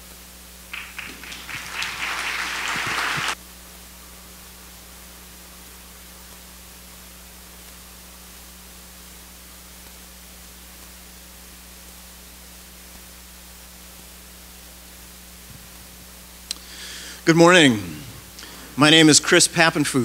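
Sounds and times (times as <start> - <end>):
low steady hum: 0.0 - 20.0
steady hiss: 0.0 - 20.0.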